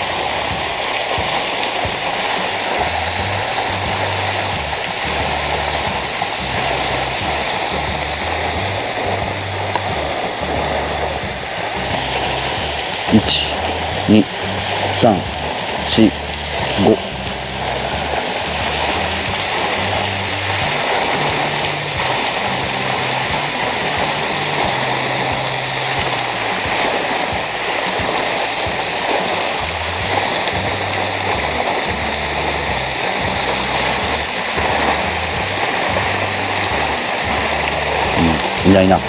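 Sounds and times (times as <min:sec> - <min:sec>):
low bass music: 0:00.0 - 0:39.0
rain falling: 0:00.0 - 0:39.0.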